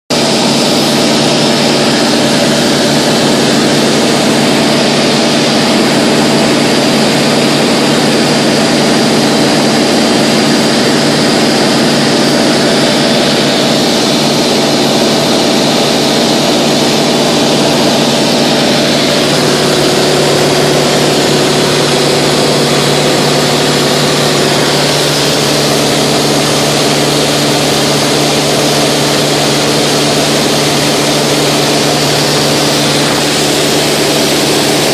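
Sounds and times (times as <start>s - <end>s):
propeller plane engine running: 0.1s - 34.9s
rush of air noise: 0.2s - 34.9s.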